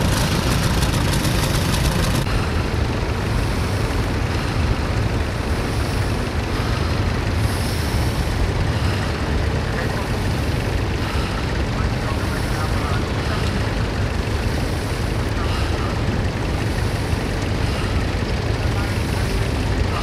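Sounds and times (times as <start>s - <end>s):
tractor engine rumbling: 0.0s - 20.0s.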